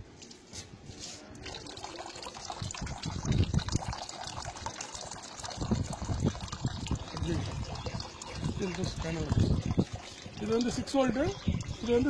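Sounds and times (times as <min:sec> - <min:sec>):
water pouring into bucket: 0:01.4 - 0:12.0.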